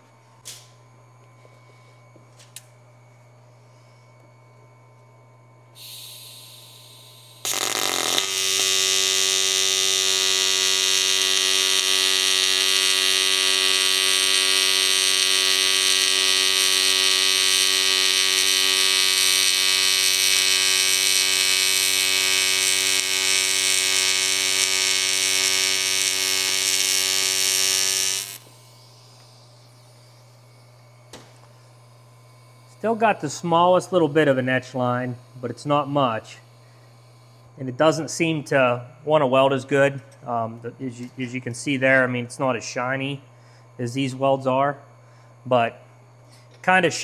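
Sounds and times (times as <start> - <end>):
low machine hum: 0.0 - 47.0
welding arc buzzing: 5.7 - 47.0.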